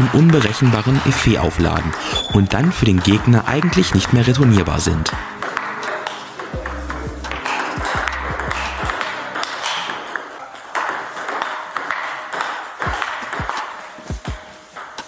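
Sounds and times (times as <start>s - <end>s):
table tennis ball clicking: 0.0s - 13.9s
background music: 0.0s - 15.0s.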